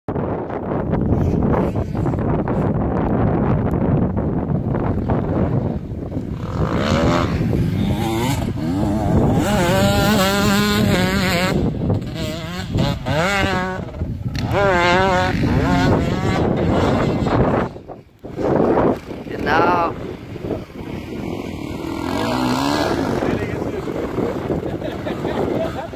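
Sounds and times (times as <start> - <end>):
wind noise on microphone: 0.1 - 25.9
dirt bike engine revving: 5.0 - 25.9.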